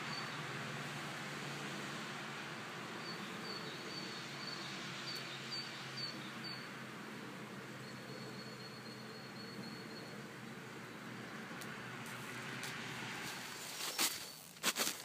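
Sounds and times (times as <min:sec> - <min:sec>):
road traffic hiss: 0:00.0 - 0:15.0.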